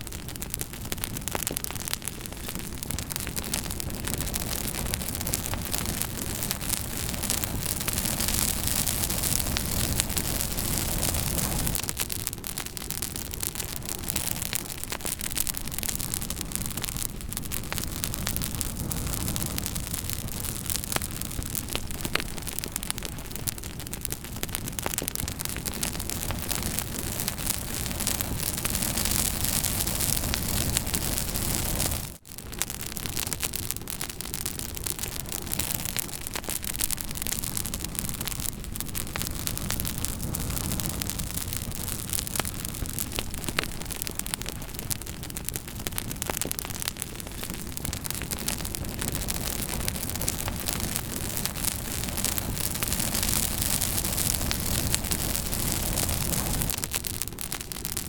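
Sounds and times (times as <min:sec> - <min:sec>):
burning wood crackling and popping: 0:00.0 - 0:58.0
campfire hissing: 0:00.0 - 0:58.0.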